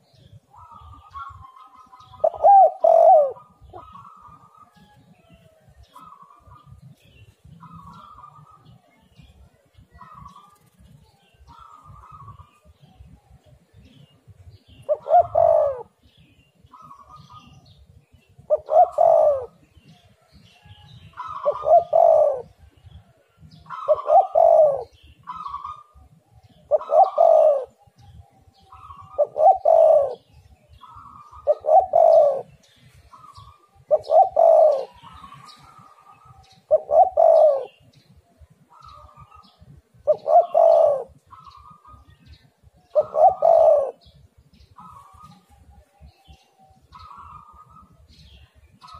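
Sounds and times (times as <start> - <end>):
dove cooing: 0.2 - 7.0, 7.6 - 20.0, 20.6 - 48.9.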